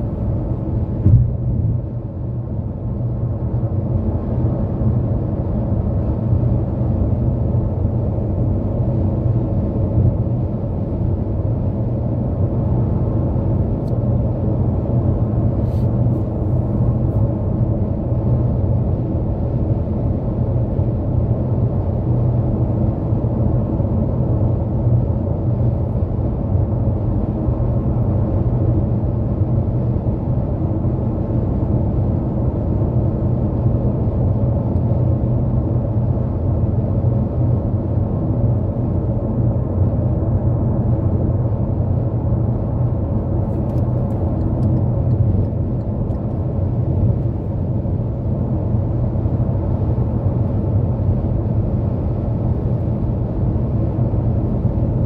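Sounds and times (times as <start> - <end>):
car road and tyre rumble: 0.0 - 55.0.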